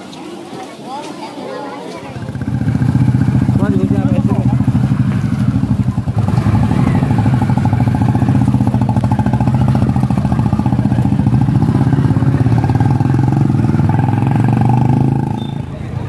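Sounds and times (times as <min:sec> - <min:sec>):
motorcycle engine running: 0:02.2 - 0:16.0.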